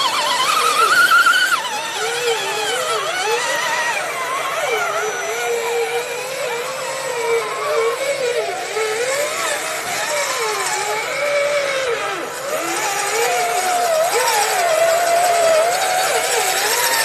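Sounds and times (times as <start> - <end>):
electric motor and gear whine: 0.0 - 17.0.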